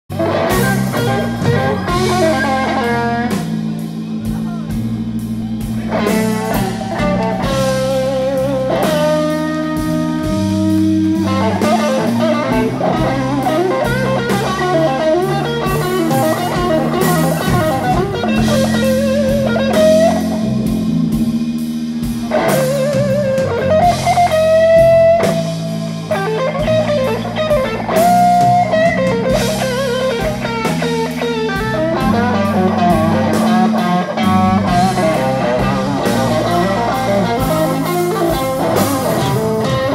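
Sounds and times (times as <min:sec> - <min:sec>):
blues band playing: 0:00.1 - 0:39.9
electric guitar bent notes: 0:00.1 - 0:39.9.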